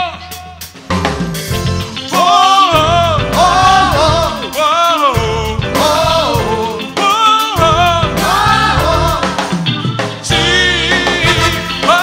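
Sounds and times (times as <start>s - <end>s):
bass and drums backing: 0.0s - 12.0s
male group singing: 2.1s - 12.0s.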